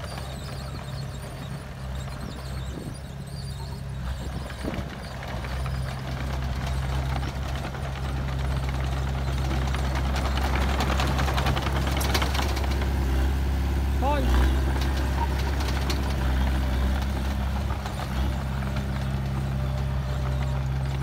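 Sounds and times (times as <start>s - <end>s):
dozer diesel engine running: 0.0s - 21.0s.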